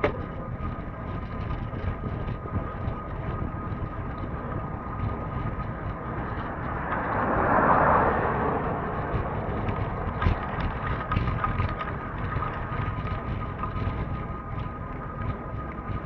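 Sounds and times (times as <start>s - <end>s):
rushing noise of travel: 0.0s - 16.0s
wind on microphone: 0.0s - 16.0s.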